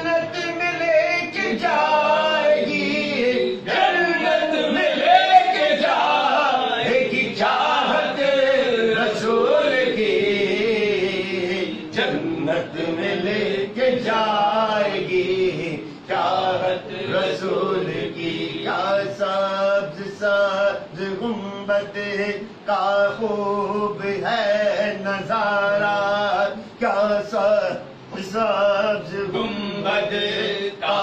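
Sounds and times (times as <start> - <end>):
men chanting devotional poem: 0.0 - 31.0.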